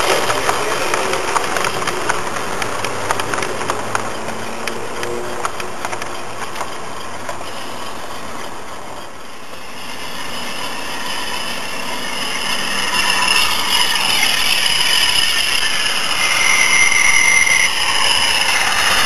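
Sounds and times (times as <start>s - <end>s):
model train wheels and motor rattling: 0.0s - 19.0s.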